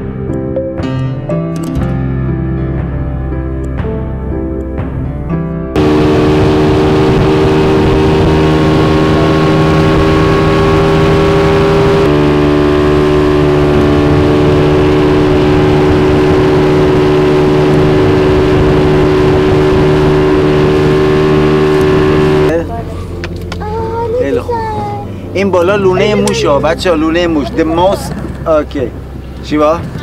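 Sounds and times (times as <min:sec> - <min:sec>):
outboard engine running: 0:05.8 - 0:30.0.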